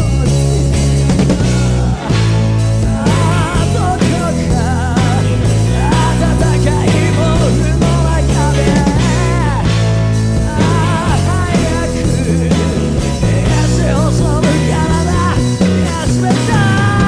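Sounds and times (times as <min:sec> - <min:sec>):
bass guitar and drums: 0:00.0 - 0:17.0
man singing rock song: 0:00.0 - 0:17.0.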